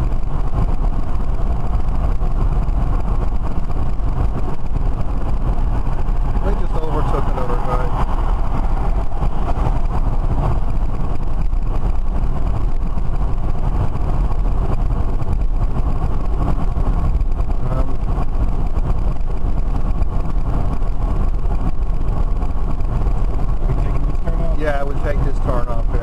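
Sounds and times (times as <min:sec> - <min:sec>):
road and wind rumble in car cabin: 0:00.0 - 0:26.0.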